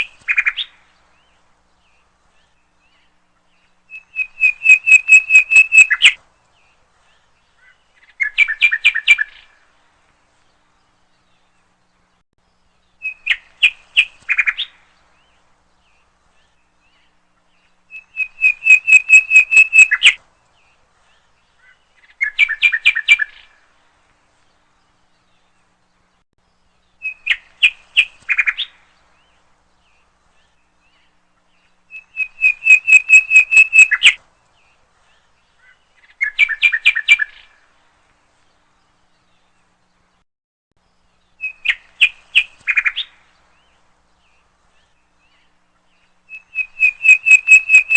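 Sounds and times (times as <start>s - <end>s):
songbird singing: 0.0s - 40.2s, 40.8s - 47.9s.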